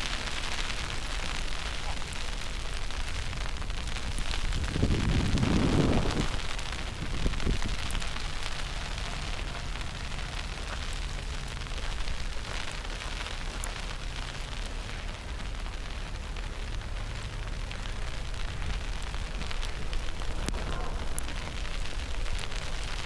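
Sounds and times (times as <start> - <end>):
low wind rumble: 0.0 - 23.0
steady hiss of falling snow: 0.0 - 23.0.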